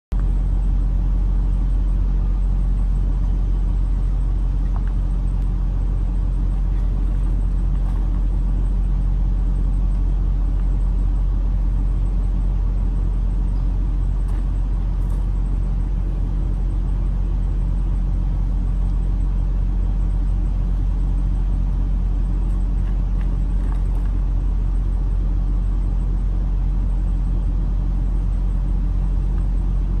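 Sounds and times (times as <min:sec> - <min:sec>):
engine idling: 0:00.1 - 0:30.0.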